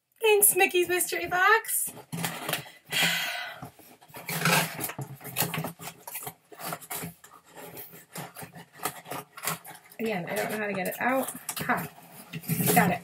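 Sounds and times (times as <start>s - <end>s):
cardboard and paper rustling: 0.3s - 13.0s.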